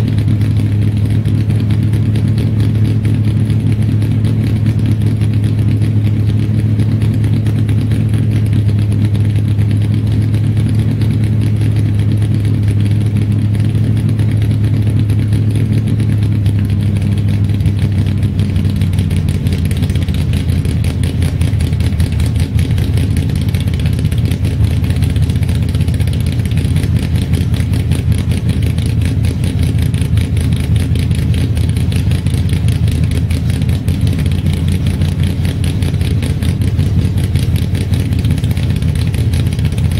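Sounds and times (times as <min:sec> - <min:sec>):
drag car engine idling: 0:00.0 - 0:39.9.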